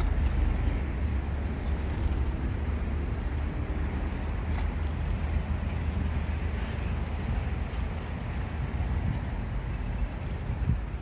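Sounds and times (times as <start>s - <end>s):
bicycle tyres rolling on asphalt: 0.0s - 11.0s
wind buffeting microphone: 0.0s - 11.0s.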